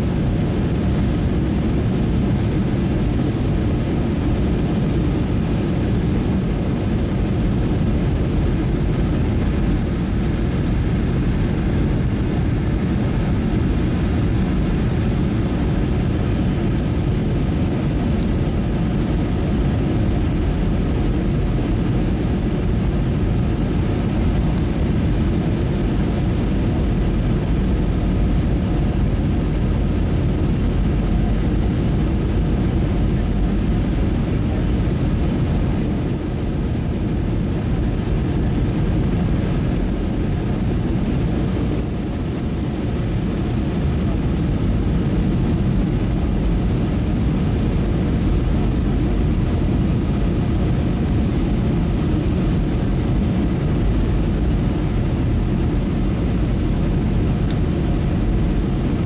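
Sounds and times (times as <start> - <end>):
airliner cabin roar: 0.0 - 59.0.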